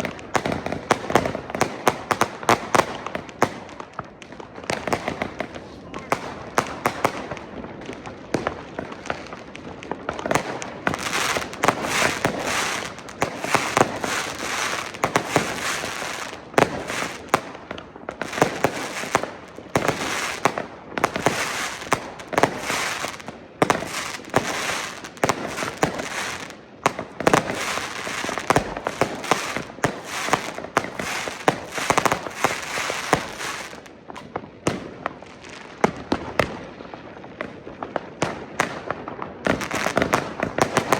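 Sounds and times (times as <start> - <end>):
firecrackers and rockets banging: 0.0 - 40.9.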